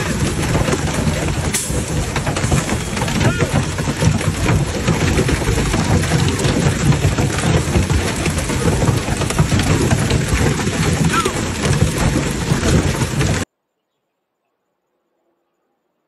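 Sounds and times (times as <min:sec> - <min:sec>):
hail clattering on cars: 0:00.0 - 0:13.5
heavy rain downpour: 0:00.0 - 0:13.5.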